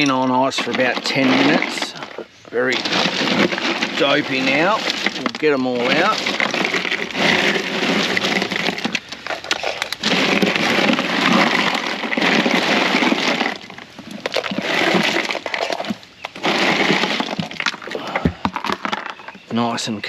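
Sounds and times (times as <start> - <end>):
ice crunching and clattering: 0.0 - 20.0.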